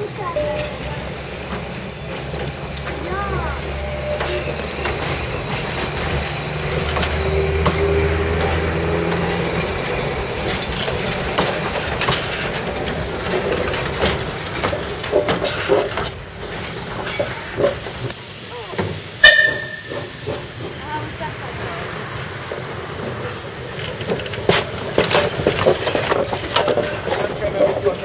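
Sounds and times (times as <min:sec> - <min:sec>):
train low drone: 0:00.0 - 0:28.0
train wheels clanking on track: 0:00.0 - 0:28.0.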